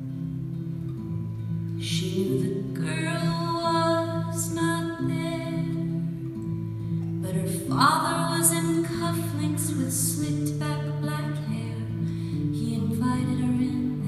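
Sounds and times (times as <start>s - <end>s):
acoustic guitar: 0.0s - 14.0s
woman singing: 1.8s - 6.3s, 7.2s - 14.0s.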